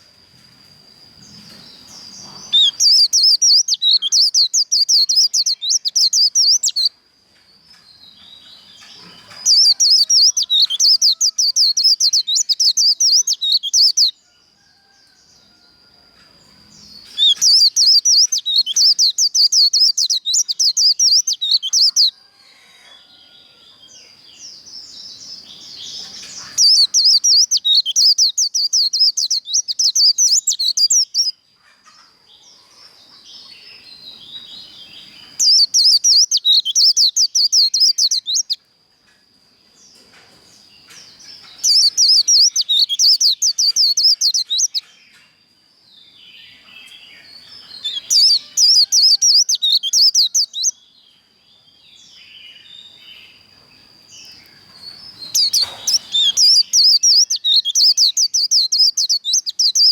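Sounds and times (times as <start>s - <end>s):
bird twittering song: 1.0s - 7.0s, 7.6s - 15.6s, 16.7s - 22.3s, 23.6s - 38.7s, 39.9s - 59.9s.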